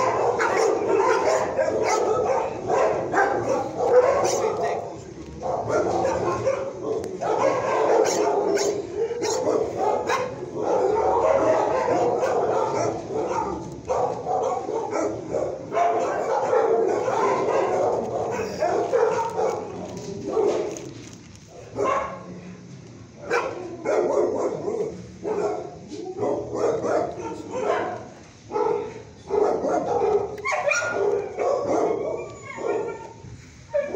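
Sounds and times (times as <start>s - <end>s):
dogs barking and yipping: 0.0s - 20.9s, 21.5s - 22.3s, 23.2s - 33.9s.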